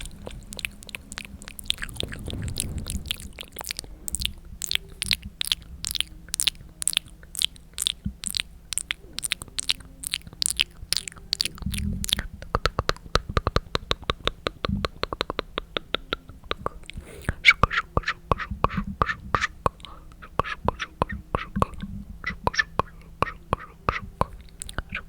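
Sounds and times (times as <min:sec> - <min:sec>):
wet tongue and lip clicks: 0:00.0 - 0:25.0.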